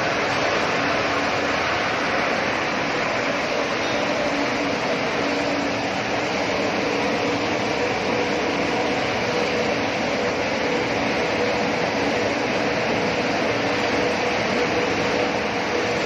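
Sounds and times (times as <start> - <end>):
production line machinery running: 0.0 - 16.0.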